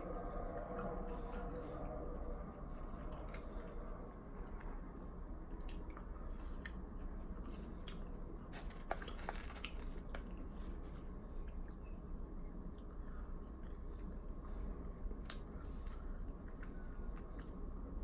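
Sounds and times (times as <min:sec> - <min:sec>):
chewing french fries: 0:00.0 - 0:18.0.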